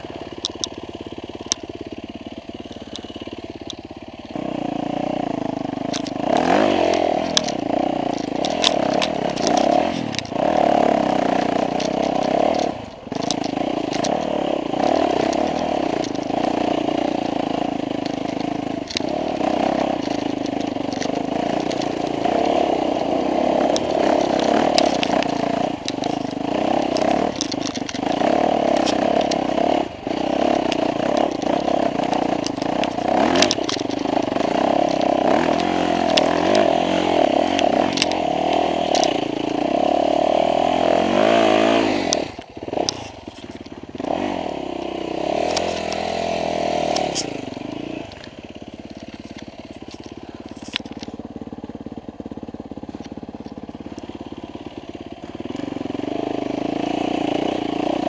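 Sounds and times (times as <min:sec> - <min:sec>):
dirt bike engine revving: 0:00.0 - 0:58.0
sharp clicks and knocks: 0:00.2 - 0:02.0, 0:02.7 - 0:58.0.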